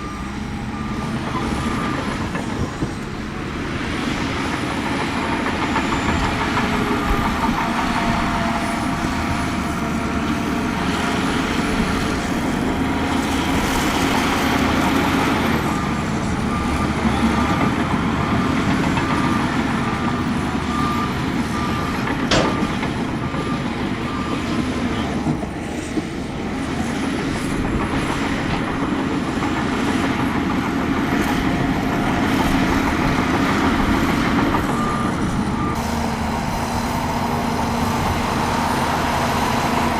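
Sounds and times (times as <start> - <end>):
heavy diesel machinery running: 0.0 - 39.9
reversing alarm beeping: 0.0 - 39.9.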